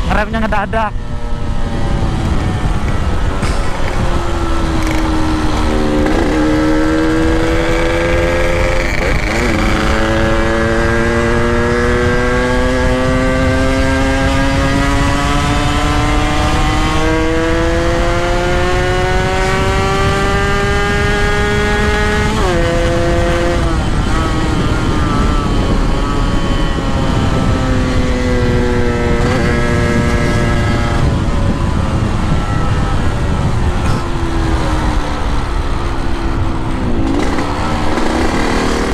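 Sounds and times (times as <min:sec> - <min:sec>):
wind rumble on microphone: 0:00.0 - 0:38.9
motorcycle engine shifting gears: 0:00.9 - 0:38.9.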